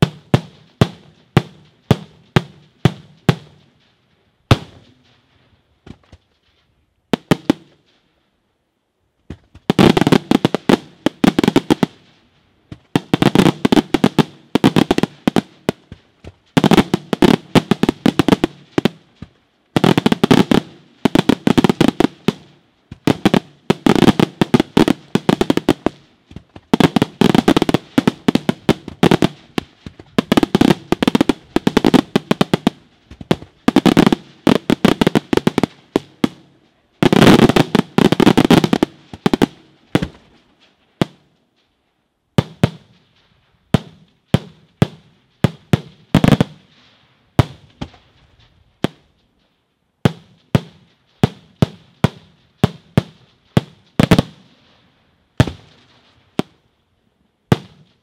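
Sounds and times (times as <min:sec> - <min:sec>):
fireworks bursting: 0:00.0 - 0:08.1, 0:09.2 - 0:41.7, 0:42.3 - 0:49.4, 0:50.0 - 0:56.7, 0:57.4 - 0:58.0.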